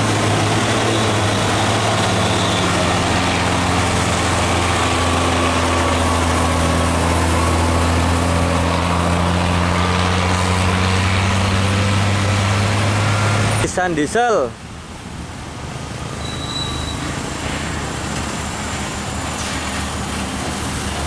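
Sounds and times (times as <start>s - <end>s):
diesel truck engine drone: 0.0s - 21.0s.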